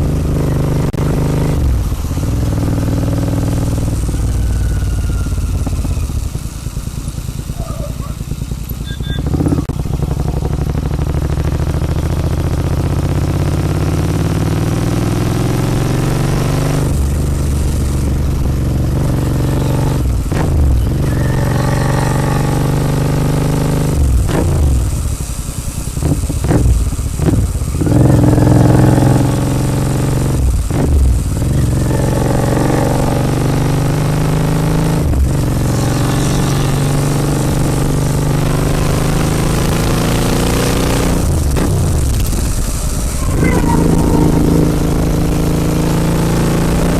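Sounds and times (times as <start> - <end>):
motorcycle engine while riding: 0.0 - 46.9.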